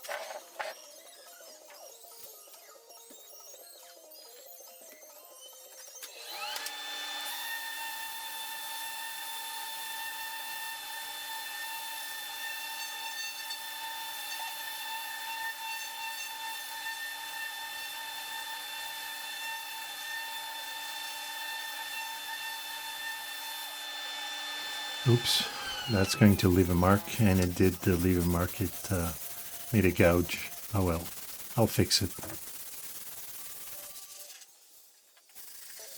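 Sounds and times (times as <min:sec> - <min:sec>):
power tool whining on wood: 0:05.8 - 0:34.9.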